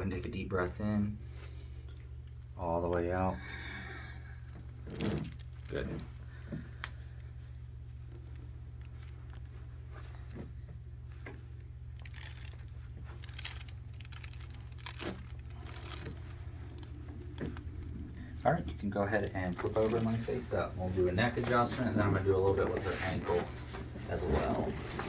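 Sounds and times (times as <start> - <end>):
steady low hum: 0.0 - 25.0
faint rustling: 4.4 - 25.0.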